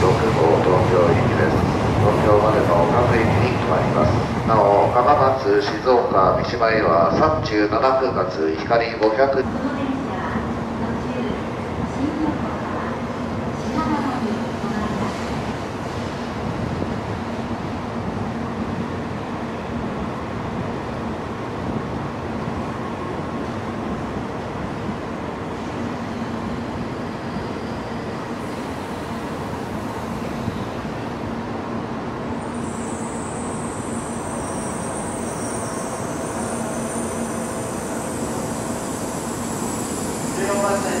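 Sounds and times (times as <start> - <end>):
train equipment rushing hum: 0.0 - 41.0.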